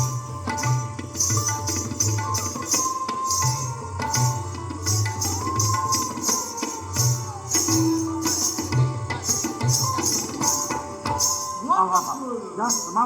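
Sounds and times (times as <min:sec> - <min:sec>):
bright jingling: 0:00.0 - 0:13.0
tabla drum strokes: 0:00.0 - 0:13.0.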